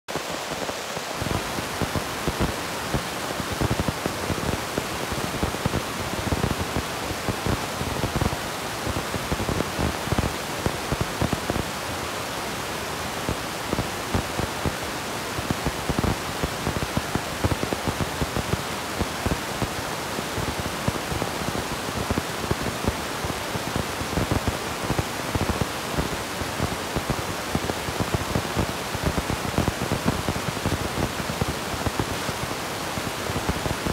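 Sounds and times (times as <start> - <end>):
steady rushing hiss: 0.1 - 33.9.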